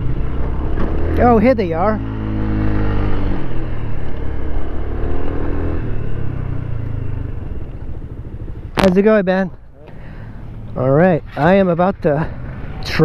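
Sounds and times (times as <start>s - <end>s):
motor scooter engine: 0.0s - 10.9s.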